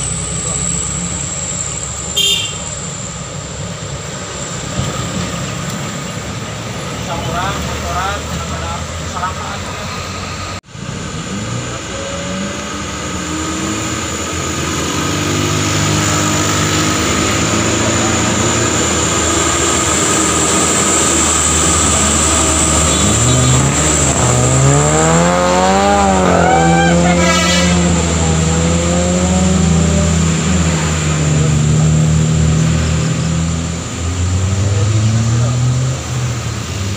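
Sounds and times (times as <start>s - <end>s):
truck diesel engine labouring: 0.0s - 36.9s.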